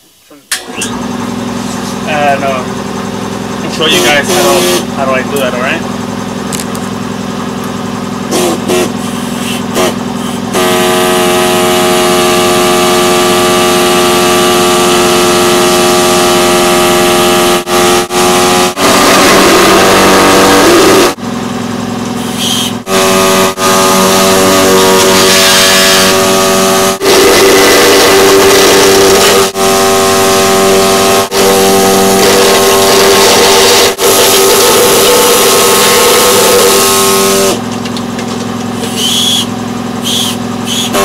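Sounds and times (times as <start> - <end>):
air saw whining: 0.5 - 41.0.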